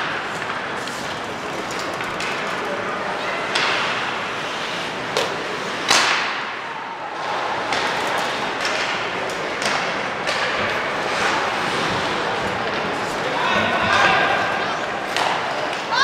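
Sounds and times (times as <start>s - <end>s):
arena noise: 0.0s - 16.0s
hockey sticks and puck cracking: 0.0s - 16.0s.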